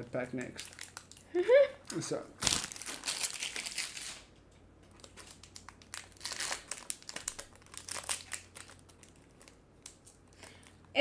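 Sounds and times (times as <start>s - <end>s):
foil wrapper crinkling: 0.1s - 4.3s, 4.9s - 10.8s.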